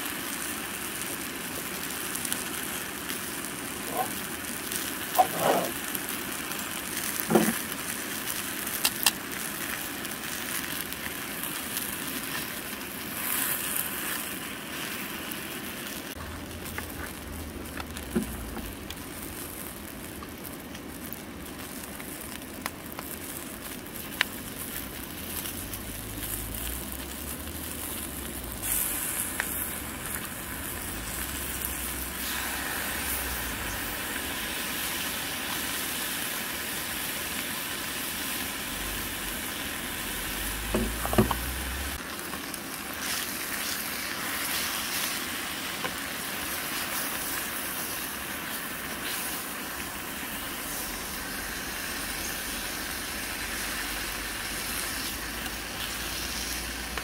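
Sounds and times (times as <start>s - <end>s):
vegetables sizzling in frying pan: 0.0s - 57.0s.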